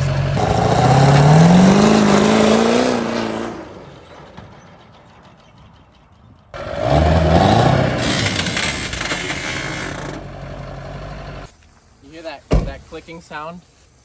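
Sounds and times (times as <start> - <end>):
truck engine revving: 0.0 - 11.5.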